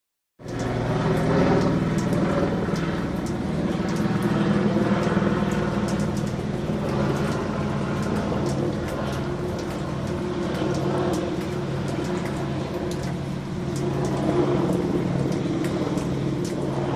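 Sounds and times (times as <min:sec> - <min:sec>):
light ticks: 0:00.4 - 0:16.9.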